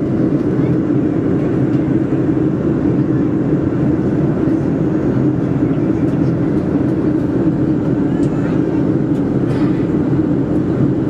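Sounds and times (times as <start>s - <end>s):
airflow noise in plane cabin: 0.0s - 11.0s
jet engines humming: 0.0s - 11.0s.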